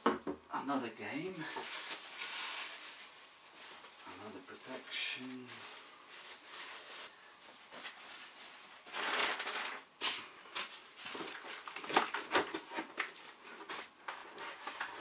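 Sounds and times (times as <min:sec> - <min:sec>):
plastic and cardboard rustling: 0:01.2 - 0:15.0.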